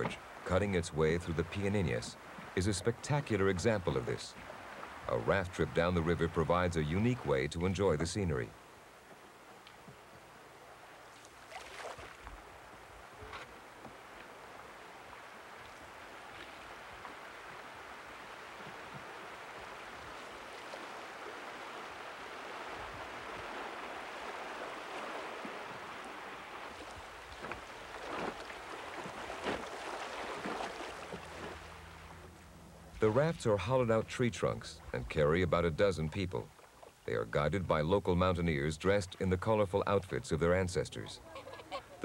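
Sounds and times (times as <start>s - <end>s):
water splashes: 0.0s - 8.2s, 11.0s - 40.5s.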